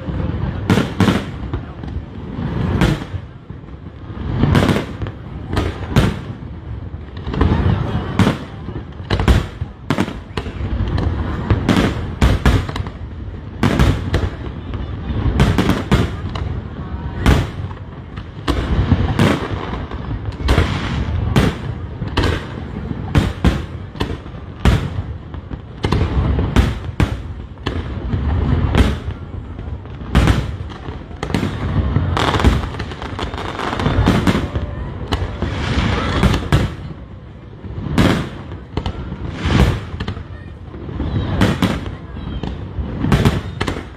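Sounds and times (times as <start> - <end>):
fireworks bangs and booms: 0.0 - 43.9.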